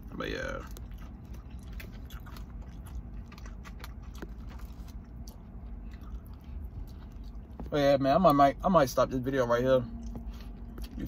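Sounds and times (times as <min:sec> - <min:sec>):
person chewing food: 0:00.0 - 0:08.6, 0:09.9 - 0:11.0
low hum: 0:00.0 - 0:11.0.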